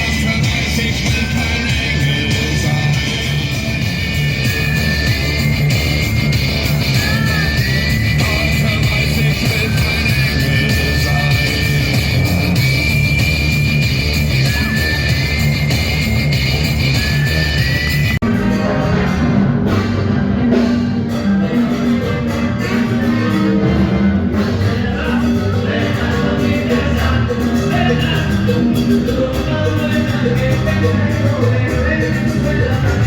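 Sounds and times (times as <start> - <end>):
latin american band music: 0.0 - 33.0.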